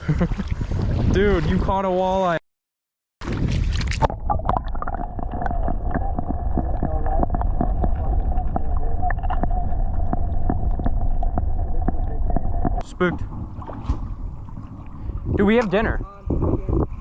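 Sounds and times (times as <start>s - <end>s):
muffled underwater river rush: 0.0s - 2.4s, 3.2s - 17.0s.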